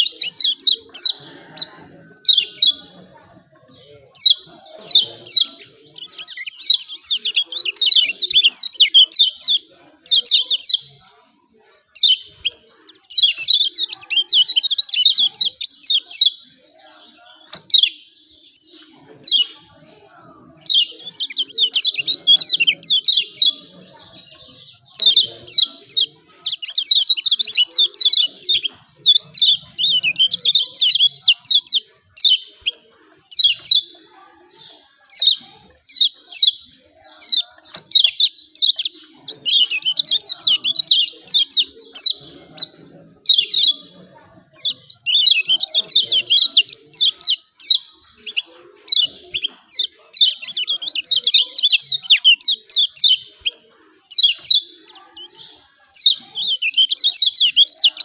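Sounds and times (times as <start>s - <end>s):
bird chattering chirps: 0.0s - 58.0s.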